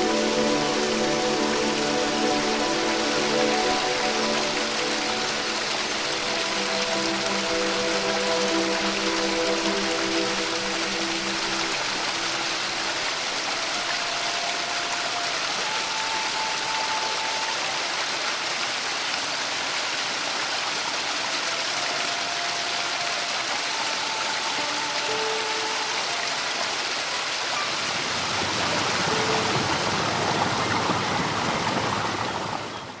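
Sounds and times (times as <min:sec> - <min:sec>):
stream rushing over stones: 0:00.0 - 0:33.0.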